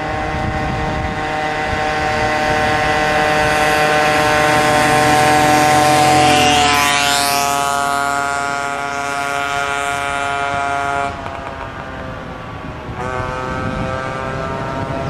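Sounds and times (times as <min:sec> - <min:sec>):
ship's horn blasts: 0:00.0 - 0:15.0.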